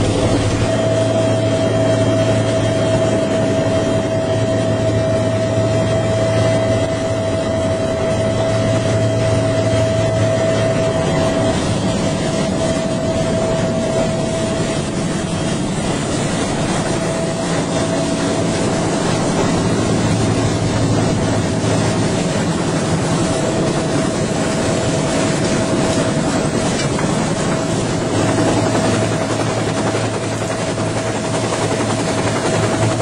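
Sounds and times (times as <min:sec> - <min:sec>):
helicopter engine and rotor: 0:00.0 - 0:33.0.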